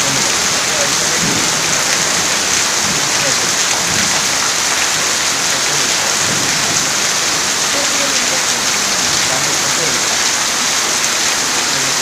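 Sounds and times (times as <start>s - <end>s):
rain on a sheet roof: 0.0s - 12.0s.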